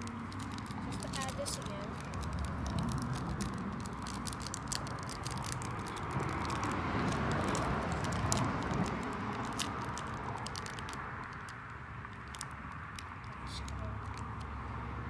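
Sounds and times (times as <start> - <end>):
paper packet crackling: 0.0 - 14.5.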